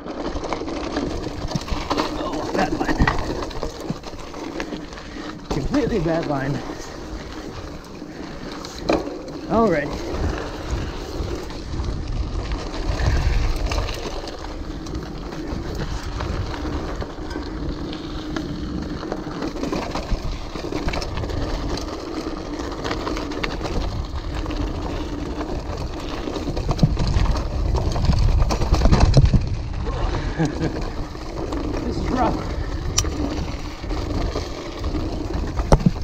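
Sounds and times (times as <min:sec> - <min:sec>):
bike clicks and rattles: 0:00.0 - 0:36.0
tyre noise on rock and gravel: 0:00.0 - 0:36.0
wind rumble on microphone: 0:00.8 - 0:08.9, 0:09.8 - 0:36.0.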